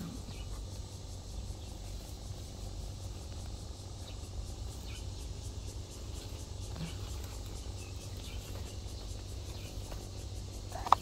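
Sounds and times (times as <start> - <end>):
crickets chirping: 0.0 - 11.0
steady low rumble: 0.0 - 11.0.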